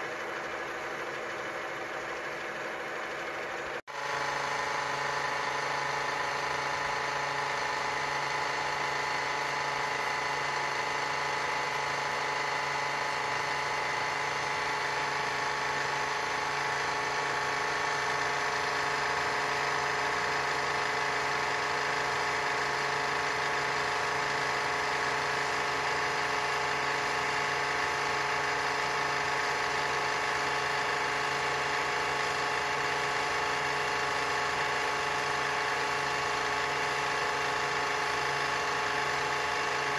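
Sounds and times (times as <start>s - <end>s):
lathe hum and gear whine: 0.0s - 39.9s.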